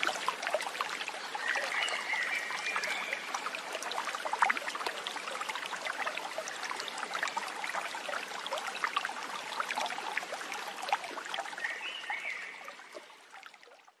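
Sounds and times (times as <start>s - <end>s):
stream babbling over stones: 0.0s - 13.8s.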